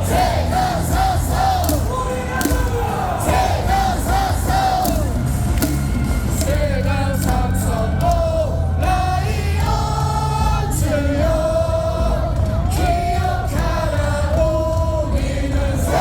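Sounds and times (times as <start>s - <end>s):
crowd singing a cheer: 0.0s - 16.0s
music over stadium speakers: 0.0s - 16.0s.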